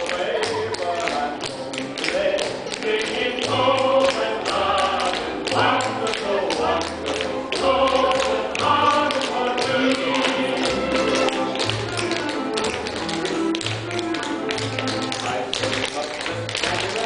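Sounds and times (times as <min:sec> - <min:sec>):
tap shoes on wooden stage: 0:00.0 - 0:17.0.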